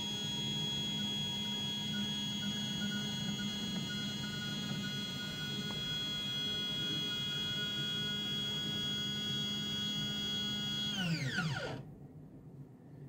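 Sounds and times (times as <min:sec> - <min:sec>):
stepper motor whining: 0:00.0 - 0:11.9.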